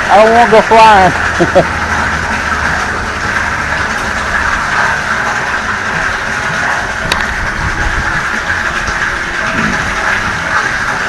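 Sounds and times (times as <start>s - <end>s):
water rushing through hose: 0.0s - 11.0s.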